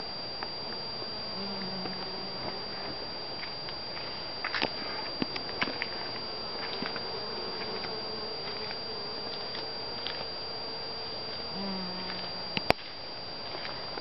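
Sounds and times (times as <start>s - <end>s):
bee buzzing close by: 0.0s - 12.7s
honeybees buzzing: 0.0s - 14.0s.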